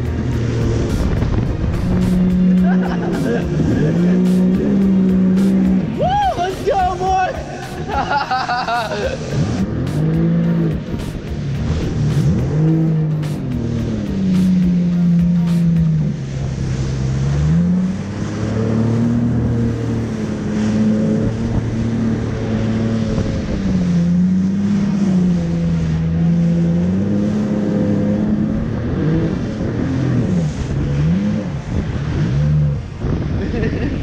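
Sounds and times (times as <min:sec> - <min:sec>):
jet ski engine revving: 0:00.0 - 0:34.0
water rushing and spray: 0:00.0 - 0:34.0.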